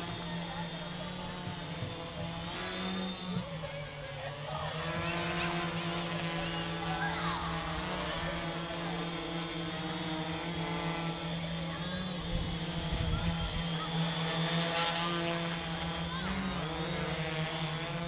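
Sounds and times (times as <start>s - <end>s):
quadcopter motors buzzing: 0.0s - 18.0s.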